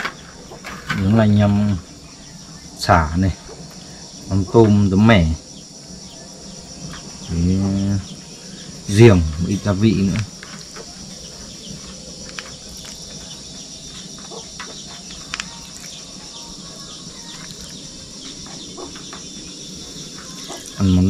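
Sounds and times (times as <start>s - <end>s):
faint chickens clucking: 0.0s - 21.0s
high insect buzz: 0.0s - 21.0s.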